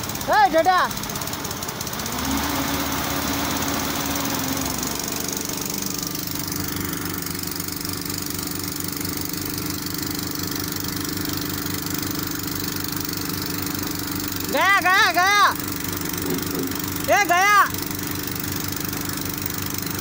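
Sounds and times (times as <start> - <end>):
crane diesel engine humming: 0.0 - 20.0.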